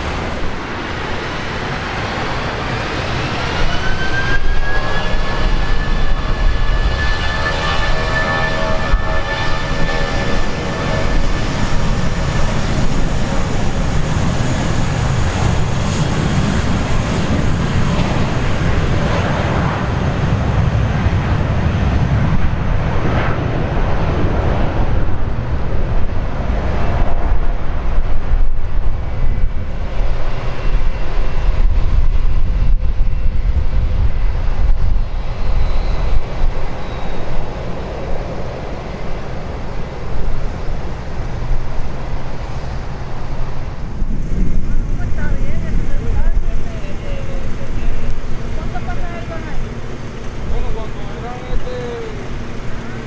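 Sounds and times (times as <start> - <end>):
jet engine roar at takeoff: 0.0 - 53.0.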